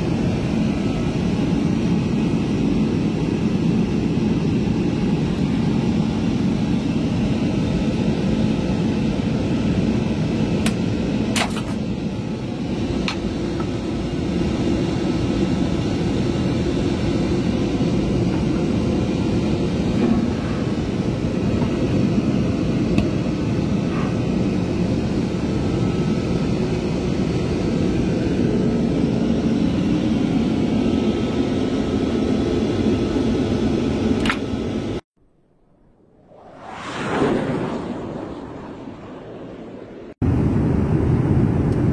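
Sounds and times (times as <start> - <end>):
airliner cabin engine rumble: 0.0 - 35.0, 36.0 - 41.9.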